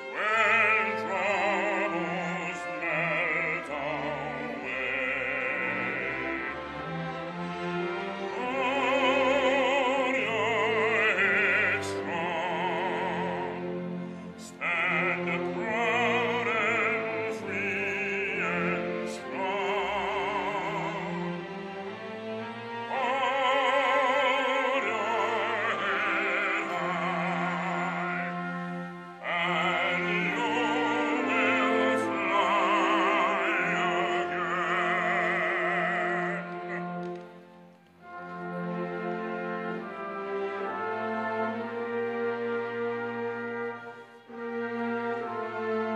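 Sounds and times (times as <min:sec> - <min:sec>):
instrumental accompaniment: 0:00.0 - 0:45.9
operatic singing with vibrato: 0:00.0 - 0:45.9.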